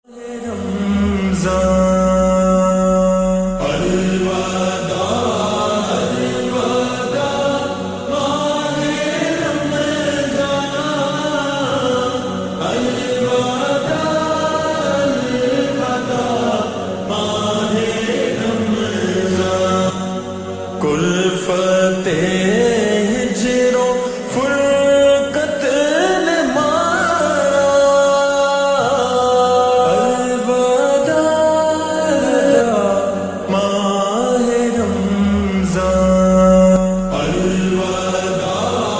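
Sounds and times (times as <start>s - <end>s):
voice chanting devotional melody: 0.0s - 38.9s
low drone: 0.1s - 24.7s, 32.2s - 38.9s.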